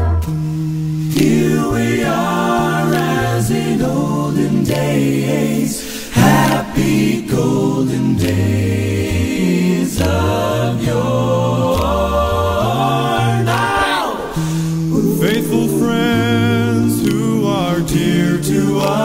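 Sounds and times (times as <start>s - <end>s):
voices singing a cappella in harmony: 0.0s - 19.0s.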